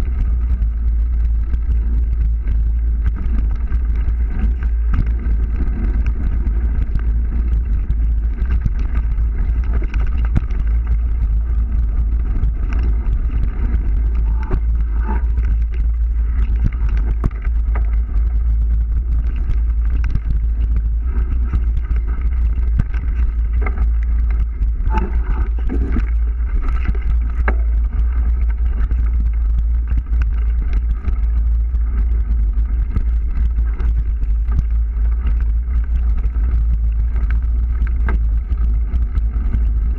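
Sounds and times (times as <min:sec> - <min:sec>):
bike tyres on dirt: 0:00.0 - 0:39.9
wind rumble on microphone: 0:00.0 - 0:39.9.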